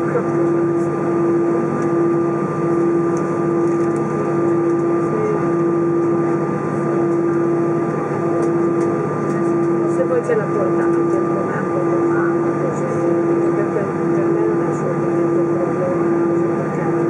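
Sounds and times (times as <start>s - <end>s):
airliner cabin hiss and hum: 0.0s - 17.0s.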